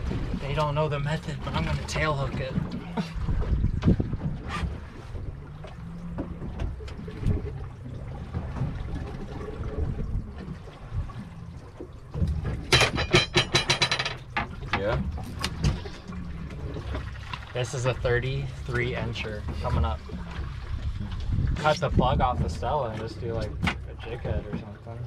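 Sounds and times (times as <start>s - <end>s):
boat motor idling: 0.0s - 25.0s
water: 0.0s - 25.0s
wind: 0.0s - 25.0s.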